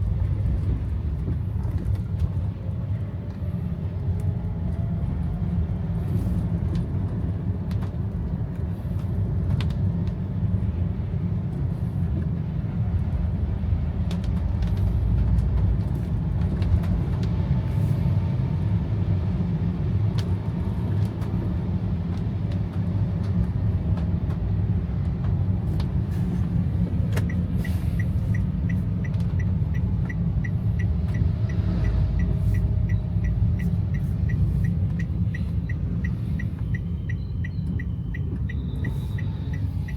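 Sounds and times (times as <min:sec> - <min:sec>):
car rumble in rain: 0:00.0 - 0:39.9.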